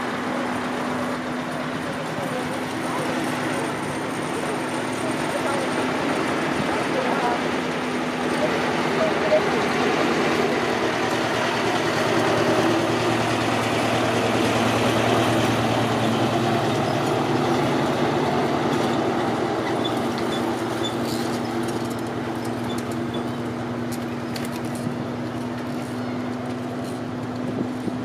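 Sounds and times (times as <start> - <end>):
road train engine humming: 0.0 - 28.0.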